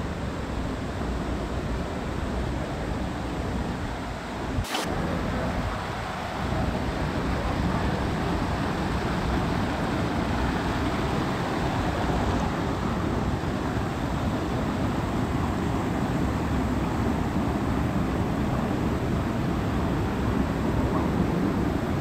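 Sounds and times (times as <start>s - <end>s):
small waterfall: 0.0s - 22.0s.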